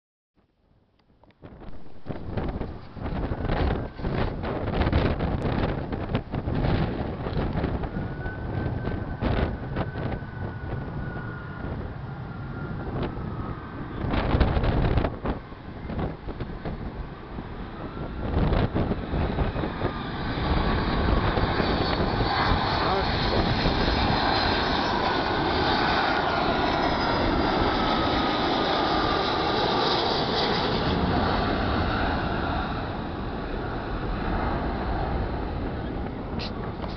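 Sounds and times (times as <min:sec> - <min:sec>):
wind buffeting microphone: 0:01.0 - 0:36.9
jet engines whining: 0:01.7 - 0:36.9.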